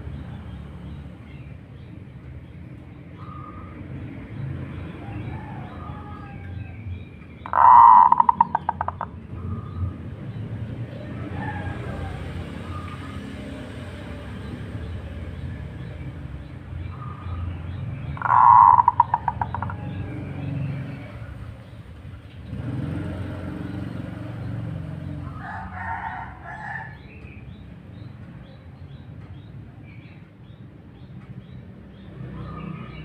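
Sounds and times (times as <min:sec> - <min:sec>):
loud bird calls: 0:00.0 - 0:33.0.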